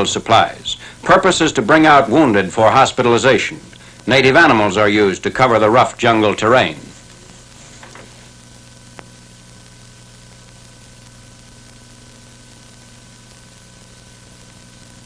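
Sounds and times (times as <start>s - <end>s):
film soundtrack hiss: 0.0s - 15.0s
low electrical hum: 0.0s - 15.0s.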